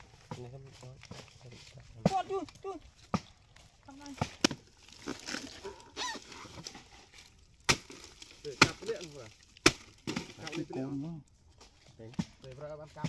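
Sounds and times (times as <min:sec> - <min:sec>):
palm fibre cracking: 0:00.0 - 0:13.0.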